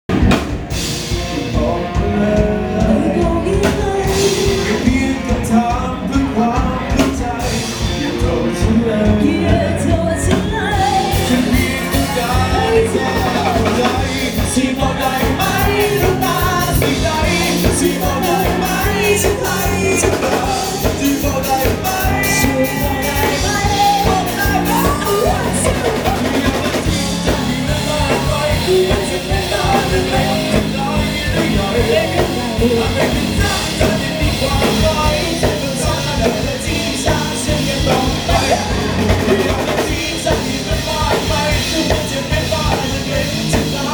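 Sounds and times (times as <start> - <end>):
band playing a song: 0.1 - 43.9
person singing: 0.7 - 43.9.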